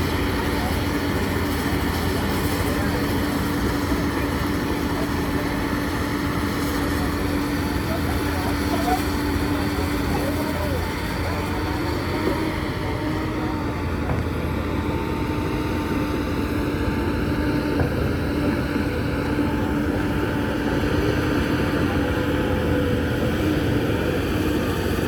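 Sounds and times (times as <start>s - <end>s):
diesel construction machinery running: 0.0s - 25.0s.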